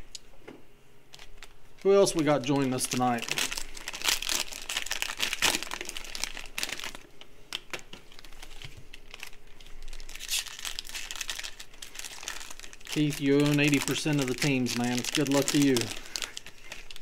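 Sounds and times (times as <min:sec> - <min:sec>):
foil wrappers crinkling and tearing: 0:01.1 - 0:17.0.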